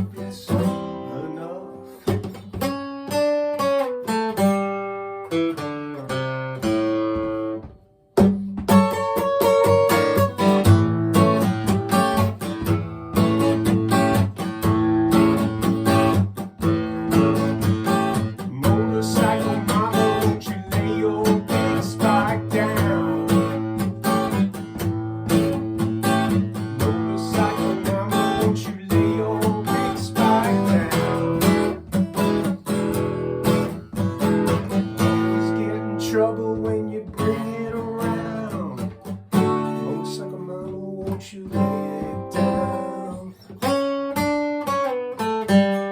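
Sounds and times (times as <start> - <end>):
acoustic guitar strumming: 0.0 - 45.9.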